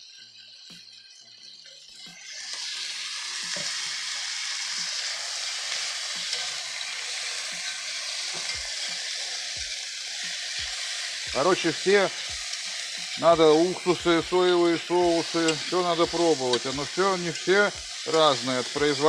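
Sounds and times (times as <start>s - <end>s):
onions sizzling in a skillet: 0.0s - 19.0s.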